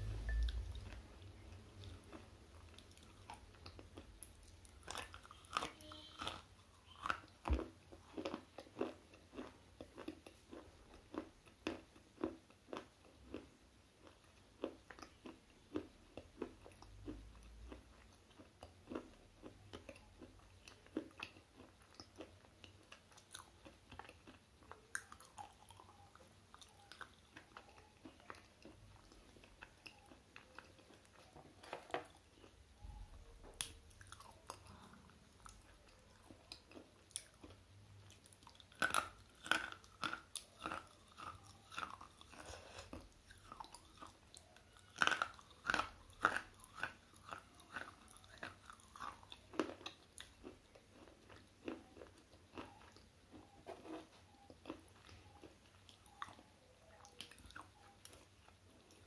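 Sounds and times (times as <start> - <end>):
gritty crunches of chewing: 0.3 - 33.0, 33.6 - 59.0.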